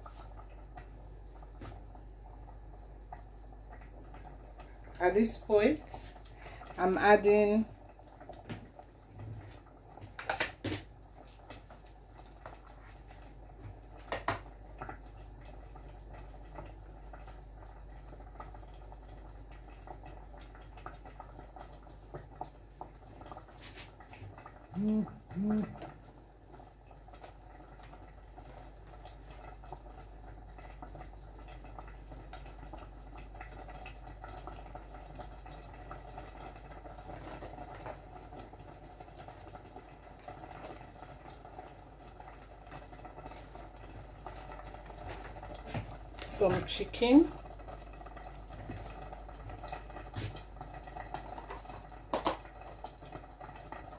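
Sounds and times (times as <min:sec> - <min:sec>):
sauce bubbling in a pot: 0:00.0 - 0:53.9.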